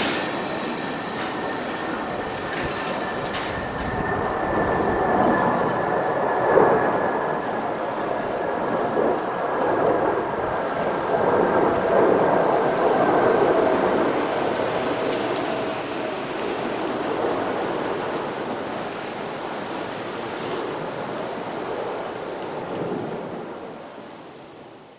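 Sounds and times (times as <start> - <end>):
wind on microphone: 0.0 - 24.8.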